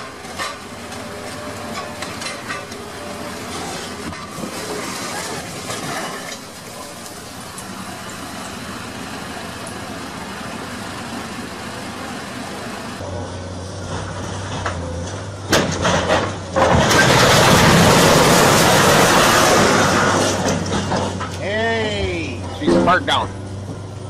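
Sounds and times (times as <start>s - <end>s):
crashing rumble of falling debris: 0.0s - 12.0s, 13.7s - 21.4s
excavator demolition noise: 0.0s - 24.0s.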